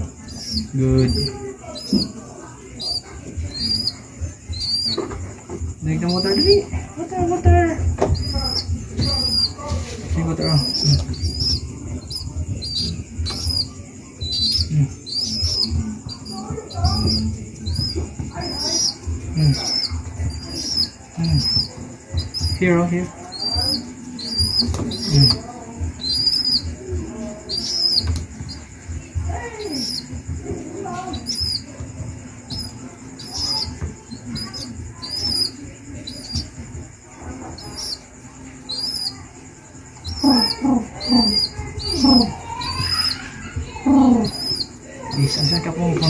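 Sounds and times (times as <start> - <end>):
baby pigeon peeping: 0.0 - 46.0.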